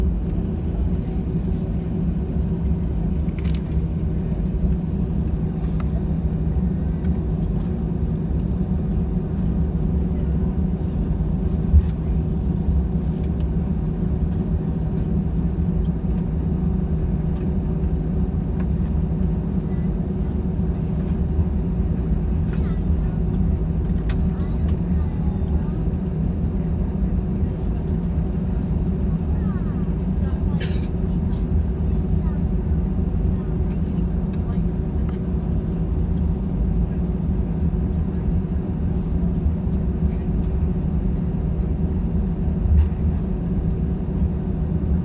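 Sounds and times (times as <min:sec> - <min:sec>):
jet engines humming in cabin: 0:00.0 - 0:45.0.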